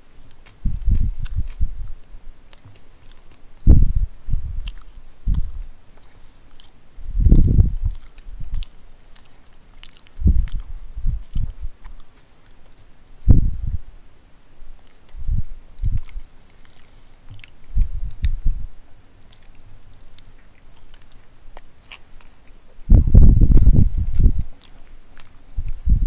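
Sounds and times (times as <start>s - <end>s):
person chewing food: 0.0s - 12.9s, 14.7s - 18.4s, 19.0s - 26.0s.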